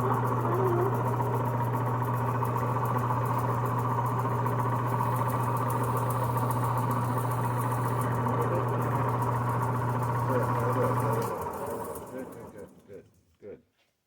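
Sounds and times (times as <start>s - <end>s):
electric sander running: 0.0s - 12.0s.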